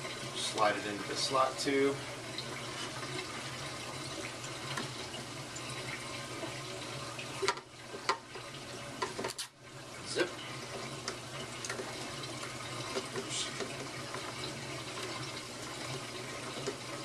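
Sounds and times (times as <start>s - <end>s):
water running in pipes: 0.0s - 17.0s.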